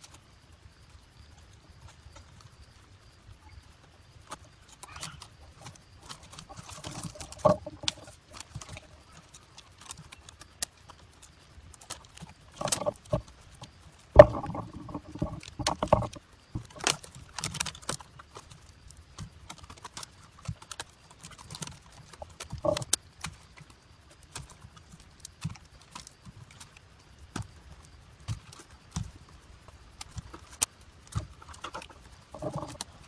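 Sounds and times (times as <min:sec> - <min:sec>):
bamboo strips clicking: 0:04.2 - 0:33.0.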